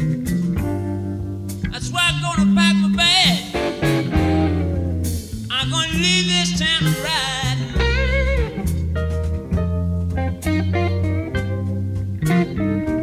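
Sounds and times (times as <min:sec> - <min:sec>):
blues-rock electric guitar music: 0:00.0 - 0:13.0.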